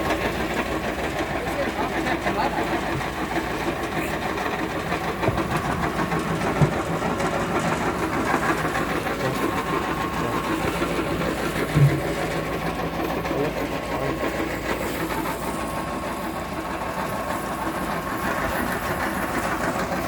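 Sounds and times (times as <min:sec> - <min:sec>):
briquette press motor running: 0:00.0 - 0:20.0.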